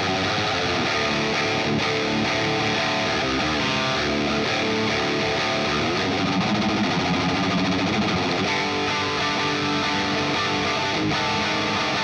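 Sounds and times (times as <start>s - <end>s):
distorted electric guitar riff: 0.0s - 12.0s.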